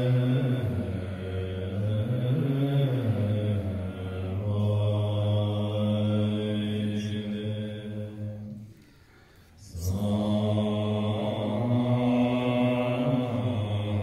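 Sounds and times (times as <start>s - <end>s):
monks chanting in low tones: 0.0s - 8.8s, 9.6s - 14.0s.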